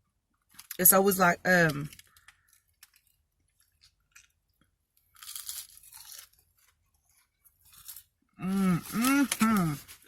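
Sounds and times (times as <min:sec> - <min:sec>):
person chewing crunchy food: 0:01.9 - 0:10.0.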